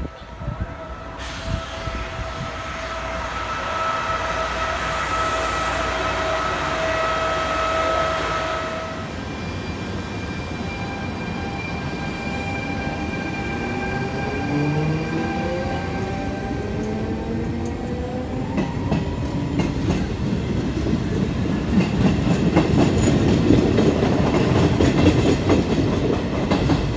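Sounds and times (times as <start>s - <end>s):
electric locomotive whine: 0.0s - 26.9s
wheels rumbling on rail: 0.0s - 26.9s.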